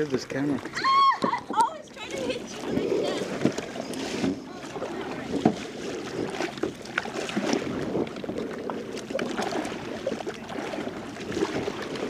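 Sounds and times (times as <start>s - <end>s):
water sloshing around kayak: 0.0s - 12.0s.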